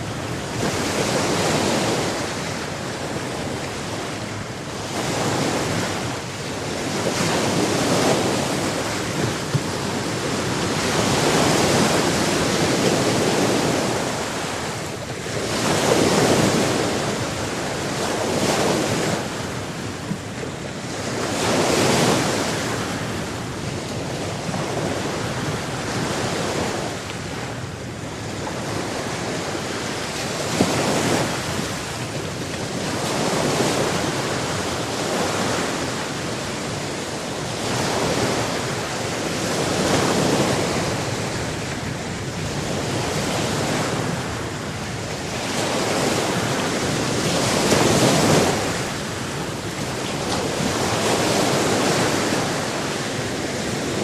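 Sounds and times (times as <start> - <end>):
sea waves washing in and out: 0.0 - 54.0.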